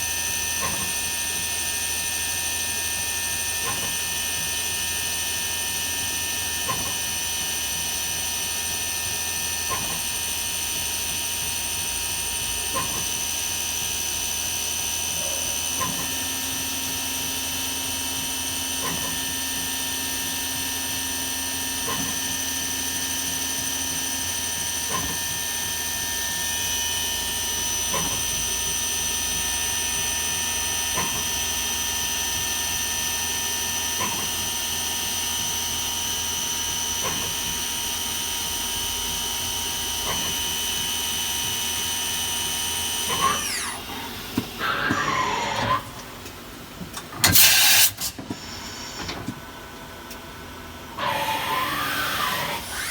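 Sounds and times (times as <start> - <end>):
machine high-pitched whine: 0.0 - 46.3, 50.7 - 52.9.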